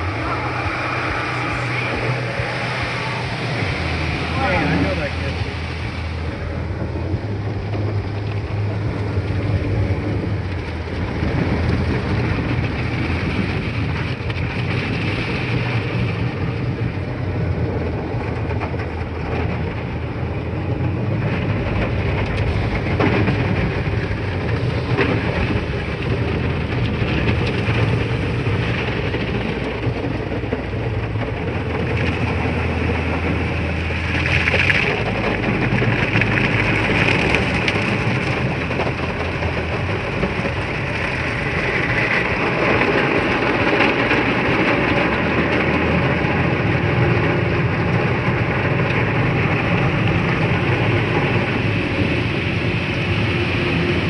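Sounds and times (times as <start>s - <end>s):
low hum of machinery: 0.0s - 54.0s
water spraying on car: 0.0s - 54.0s.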